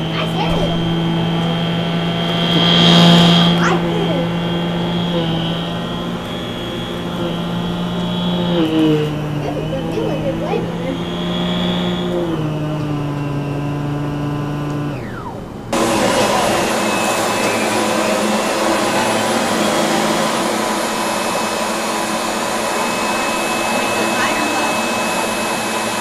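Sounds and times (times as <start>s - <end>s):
upright vacuum rushing with whine: 0.0s - 26.0s
vacuum cleaner motor humming: 0.0s - 26.0s.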